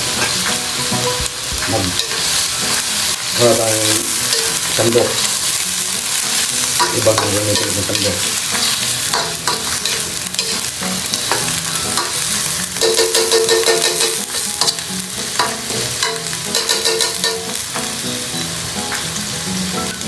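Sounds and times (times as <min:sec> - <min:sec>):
meat sizzling in a pan: 0:00.0 - 0:20.0.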